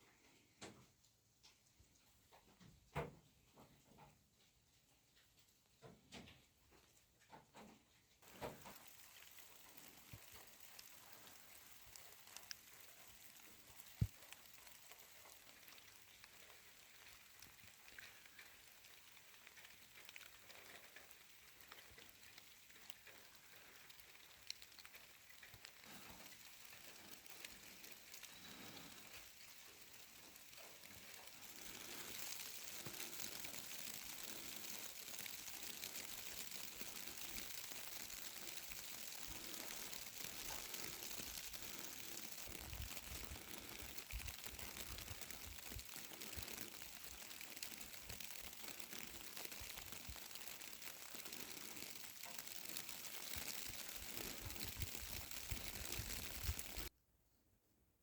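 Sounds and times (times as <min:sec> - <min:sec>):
crackling hiss: 0:01.4 - 0:56.9
small clicks: 0:05.8 - 0:56.9.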